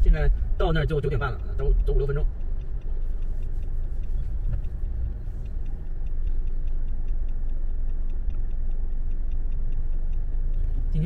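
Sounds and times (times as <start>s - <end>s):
car road rumble: 0.0s - 11.0s
turn signal clicking: 0.0s - 11.0s.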